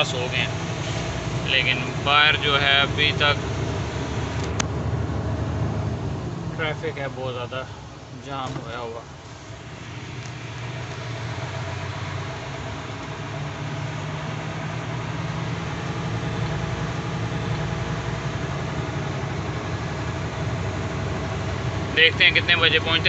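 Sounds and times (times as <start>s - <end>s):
road noise: 0.0s - 23.0s
truck engine hum: 0.0s - 23.0s.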